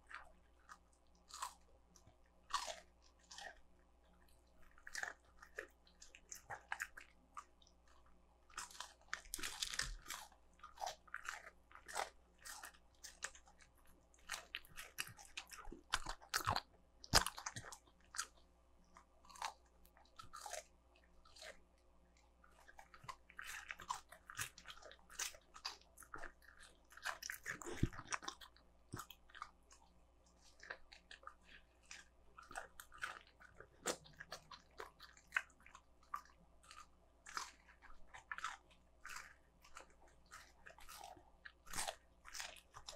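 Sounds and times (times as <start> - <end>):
dog chewing crunchy chicken: 0.0 - 42.9.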